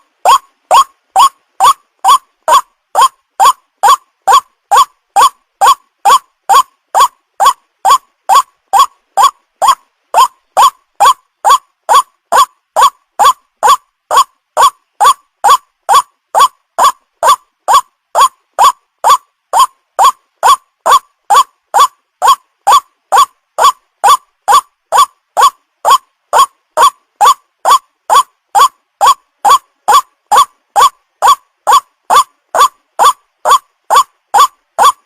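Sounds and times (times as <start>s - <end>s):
waterhen call: 0.0s - 35.0s.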